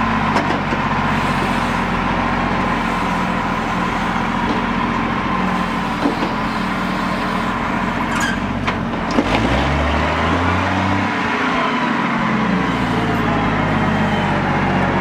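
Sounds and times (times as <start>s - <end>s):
large engine running: 0.0s - 15.0s.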